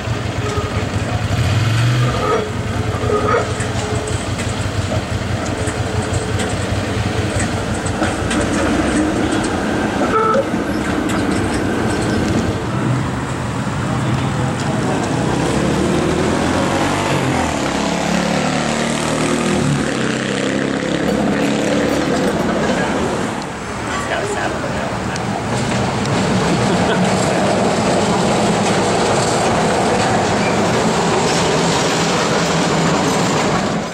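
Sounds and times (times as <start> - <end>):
passing car traffic: 0.0 - 33.9
streetcar wheels clicking over rails: 0.0 - 33.9.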